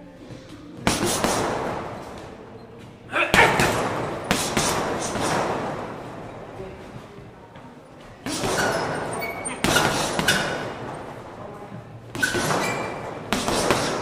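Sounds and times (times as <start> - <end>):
gloves punching heavy bag: 0.8 - 2.4, 3.2 - 7.3, 8.2 - 14.0.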